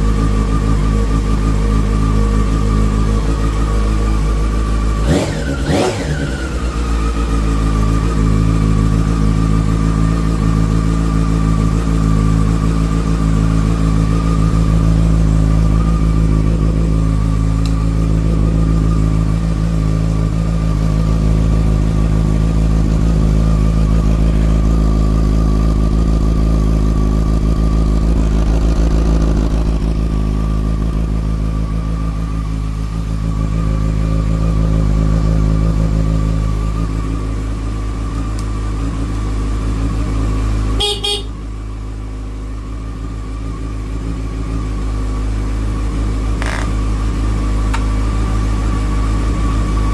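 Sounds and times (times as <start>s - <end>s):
motorcycle engine idling: 0.0s - 49.9s
motorcycle engine revving: 0.0s - 49.9s.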